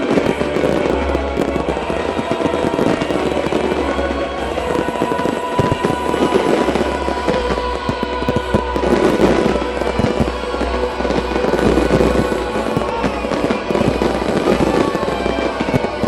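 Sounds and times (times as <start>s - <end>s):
fireworks bursting and crackling: 0.0s - 16.0s
show music: 0.0s - 16.0s.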